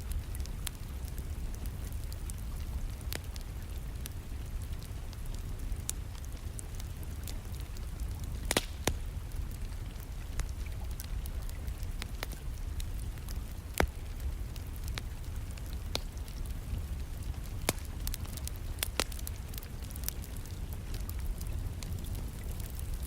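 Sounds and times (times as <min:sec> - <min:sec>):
soft rain: 0:00.0 - 0:23.0
wood fire crackling: 0:00.0 - 0:23.0.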